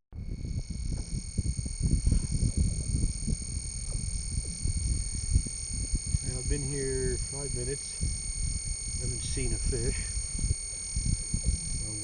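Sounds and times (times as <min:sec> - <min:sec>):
high-pitched electronic whine: 0:00.2 - 0:12.0.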